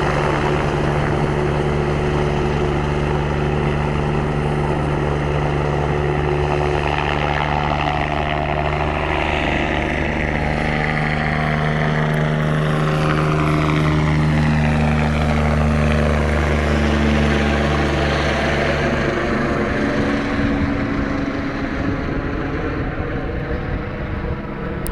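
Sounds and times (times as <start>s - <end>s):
helicopter flying past: 0.0s - 24.9s.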